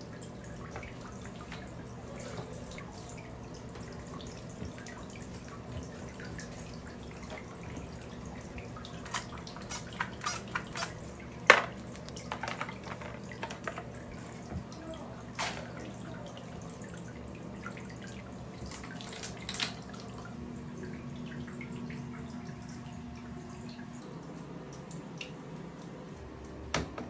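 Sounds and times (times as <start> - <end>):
water dripping in bathtub: 0.0 - 26.6
faint steady hum: 0.0 - 27.0.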